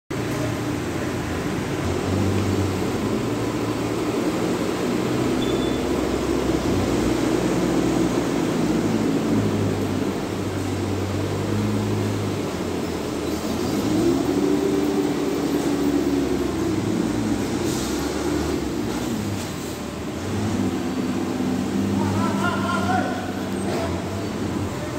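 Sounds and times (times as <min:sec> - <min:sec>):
truck engine running: 0:00.1 - 0:24.9.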